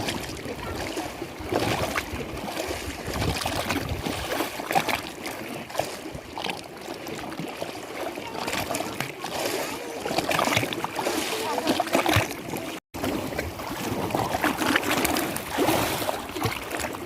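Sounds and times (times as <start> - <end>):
small water splashes: 0.0 - 17.0
water lapping: 0.0 - 17.0.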